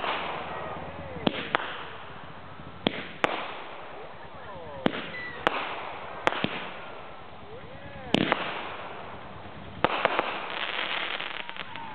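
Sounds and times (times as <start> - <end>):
crackling hiss of fireworks: 0.0 - 11.9
fireworks bangs: 0.0 - 11.9.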